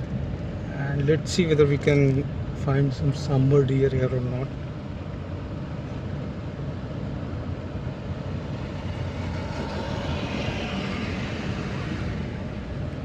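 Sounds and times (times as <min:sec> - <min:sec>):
road and tyre noise: 0:00.0 - 0:13.0
vehicle engine hum: 0:00.0 - 0:13.0.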